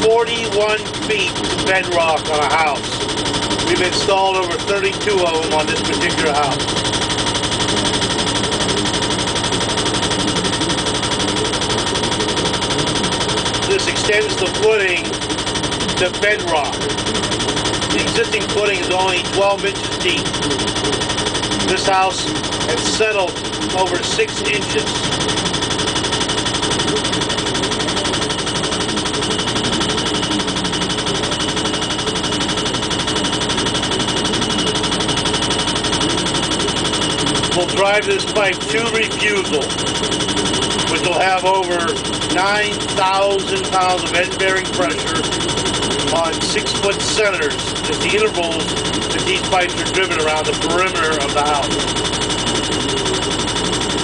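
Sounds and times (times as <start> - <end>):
powered pile hammer hammering: 0.0 - 54.0.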